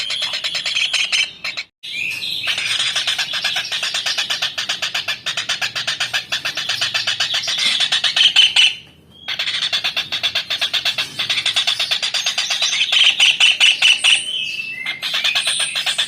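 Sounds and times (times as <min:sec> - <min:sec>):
kingfisher chattering call: 0:02.4 - 0:16.0.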